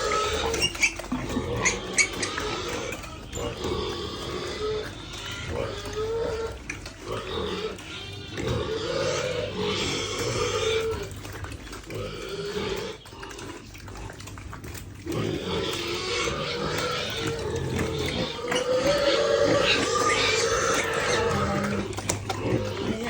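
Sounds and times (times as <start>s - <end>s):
piglets squealing: 0.0s - 14.0s, 14.7s - 23.0s
piglets grunting: 0.0s - 23.0s.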